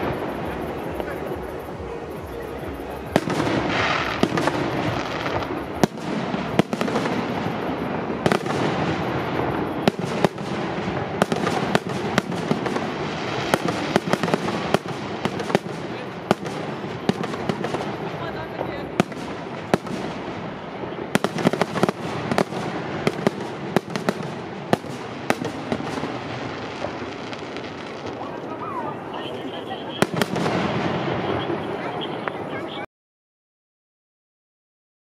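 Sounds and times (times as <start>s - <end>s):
firework shells bursting with bangs: 0.0s - 32.2s
firework crackle: 0.0s - 32.9s.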